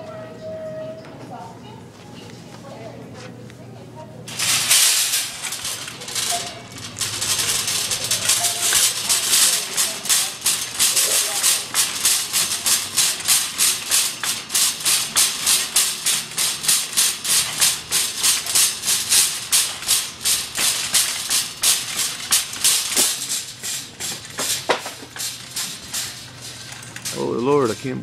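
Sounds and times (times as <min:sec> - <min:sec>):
shopping cart rattling: 0:04.3 - 0:28.0.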